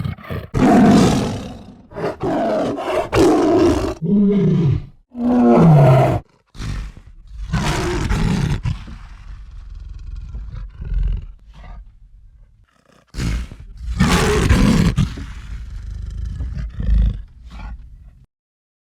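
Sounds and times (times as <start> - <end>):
lion roaring and grunting: 0.0 - 18.2.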